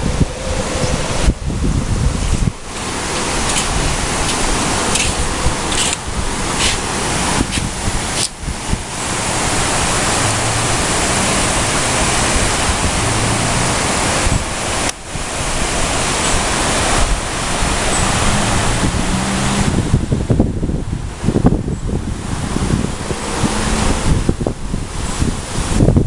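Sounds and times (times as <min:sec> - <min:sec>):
strong storm wind rushing: 0:00.0 - 0:26.0
wind buffeting microphone: 0:00.0 - 0:26.0.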